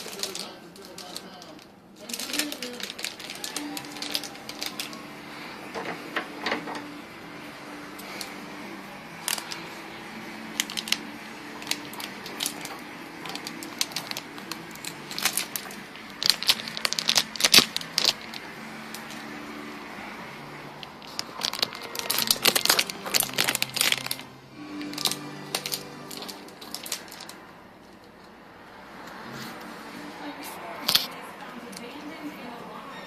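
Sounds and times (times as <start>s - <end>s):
plastic shrink wrap crinkling: 0.0s - 7.1s, 7.7s - 28.0s
faint music with low notes: 0.0s - 33.0s.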